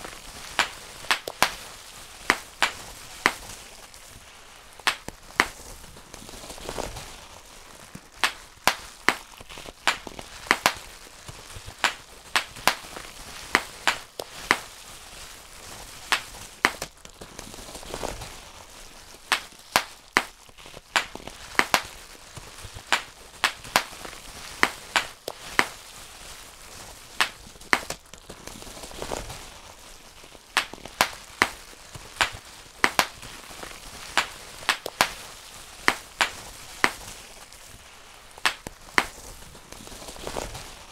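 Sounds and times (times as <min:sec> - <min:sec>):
bubble wrap popping: 0:00.0 - 0:40.9
plastic sheet rustling: 0:00.0 - 0:40.9.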